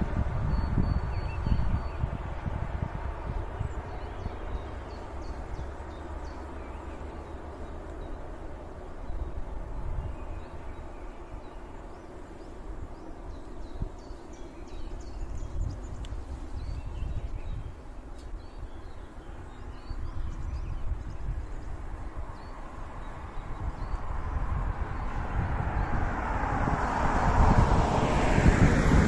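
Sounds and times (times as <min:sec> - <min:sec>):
small birds chirping: 0:00.0 - 0:26.4
wind buffeting microphone: 0:00.0 - 0:29.0.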